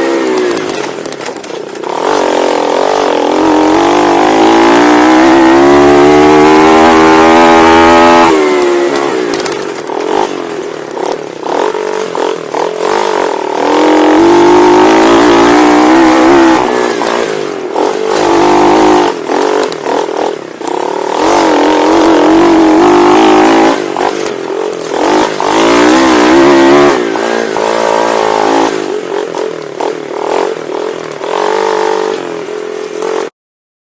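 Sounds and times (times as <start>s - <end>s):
pit bike engine revving: 0.0s - 33.3s.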